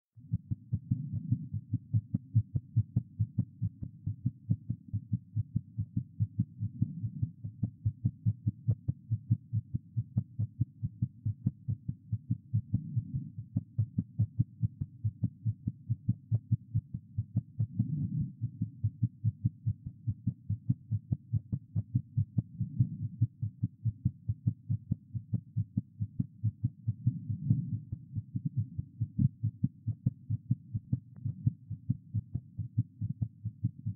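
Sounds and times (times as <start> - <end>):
heartbeat through stethoscope: 0.2 - 33.9.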